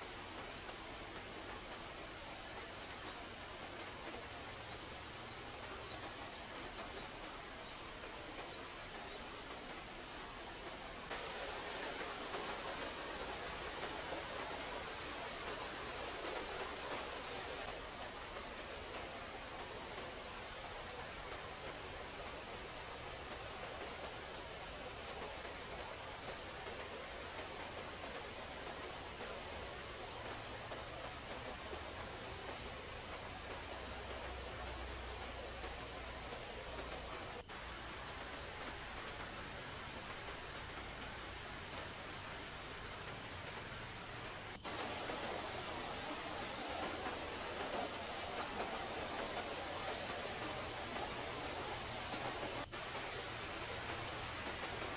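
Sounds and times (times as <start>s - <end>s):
background hiss: 0.0s - 54.9s.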